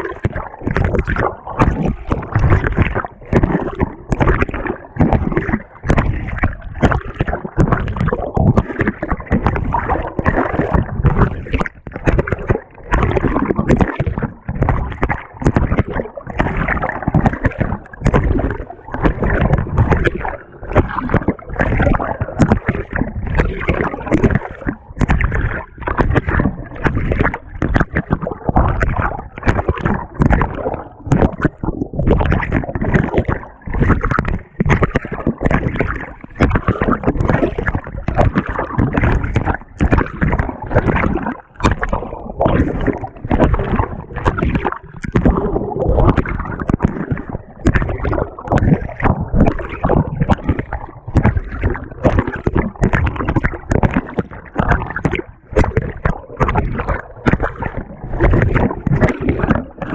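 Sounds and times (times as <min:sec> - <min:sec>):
washing machine churning water: 0:00.0 - 0:59.9.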